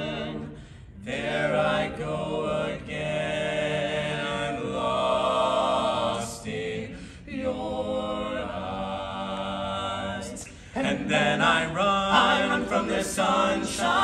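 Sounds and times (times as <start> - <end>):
barbershop quartet singing: 0.0 - 14.0.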